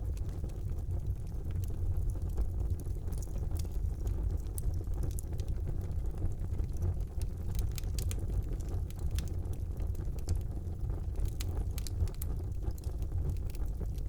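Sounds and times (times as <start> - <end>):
wood fire burning: 0.0 - 14.0.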